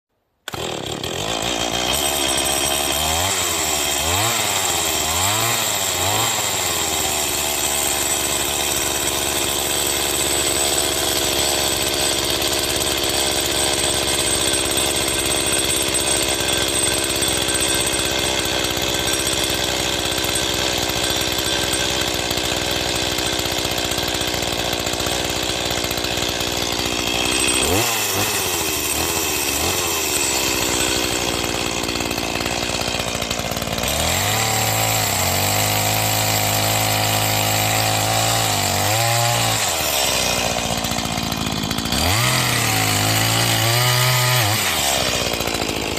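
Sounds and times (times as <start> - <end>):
chainsaw revving and running: 0.4 - 45.9.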